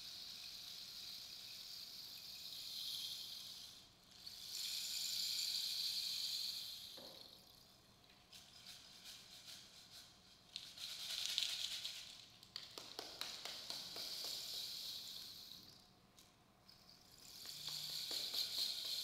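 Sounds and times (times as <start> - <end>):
seed pod rattle shaken: 0.0 - 19.0.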